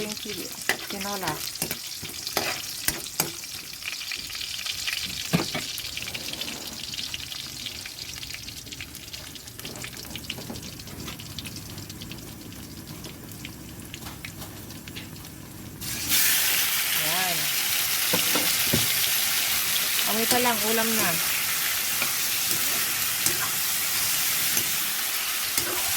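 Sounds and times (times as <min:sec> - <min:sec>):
food sizzling in a pan: 0:00.0 - 0:25.9.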